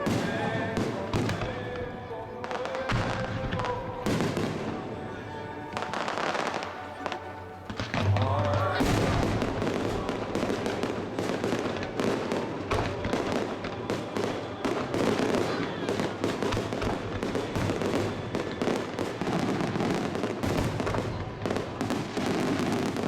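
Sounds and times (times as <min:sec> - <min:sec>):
deep fireworks booms: 0:00.0 - 0:23.0
fireworks crackling: 0:00.0 - 0:23.0.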